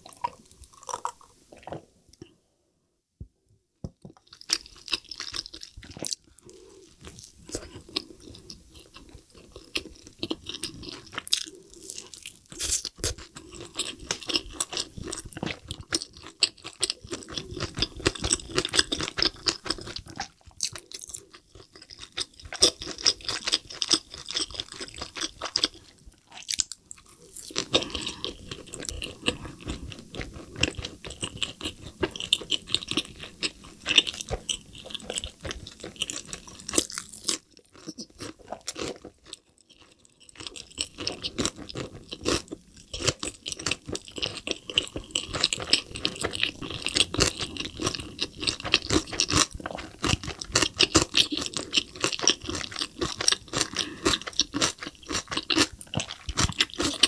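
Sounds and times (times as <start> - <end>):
chewing with wet crackles: 4.2 - 57.0.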